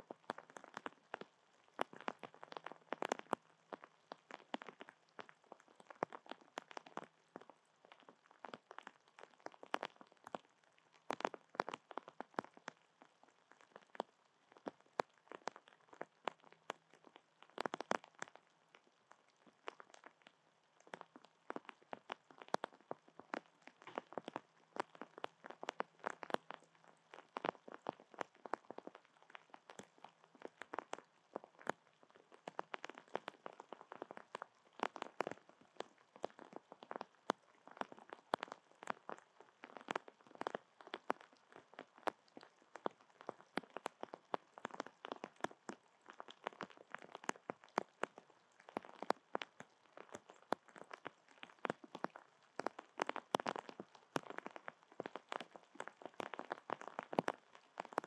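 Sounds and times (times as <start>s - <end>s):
rain ticking on surfaces: 0.0s - 58.0s.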